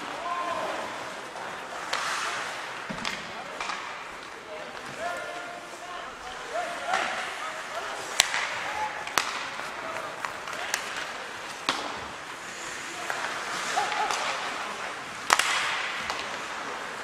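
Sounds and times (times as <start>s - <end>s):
hockey sticks and puck cracking: 0.0s - 17.0s
skates hissing on ice: 0.6s - 4.4s, 5.5s - 17.0s.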